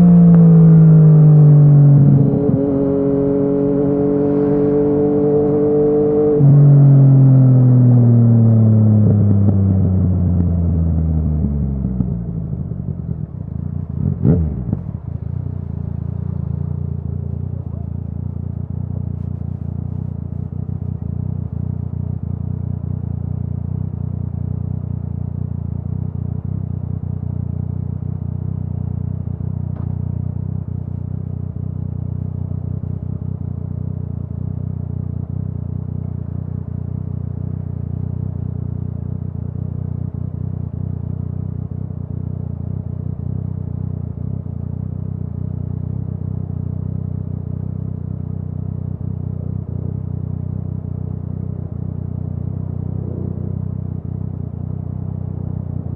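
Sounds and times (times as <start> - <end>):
motorcycle engine idling: 8.0 - 55.9.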